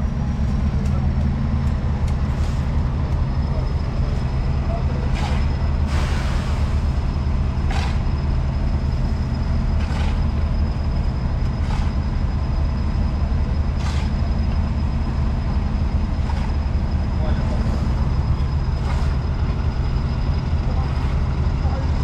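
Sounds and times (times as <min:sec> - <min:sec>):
heavy machinery engine droning: 0:00.0 - 0:22.0.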